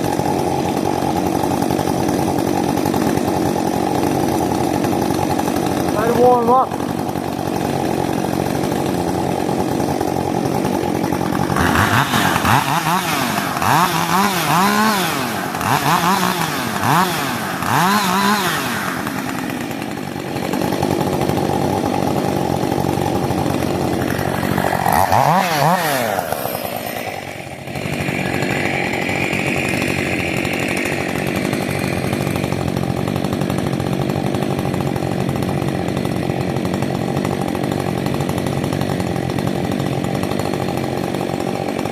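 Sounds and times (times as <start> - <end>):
chainsaw idling and revving: 0.0 - 41.9.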